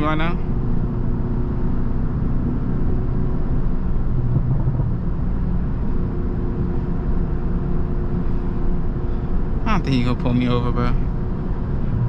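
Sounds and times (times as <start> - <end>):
car engine cruising: 0.0 - 12.0
road noise: 0.0 - 12.0.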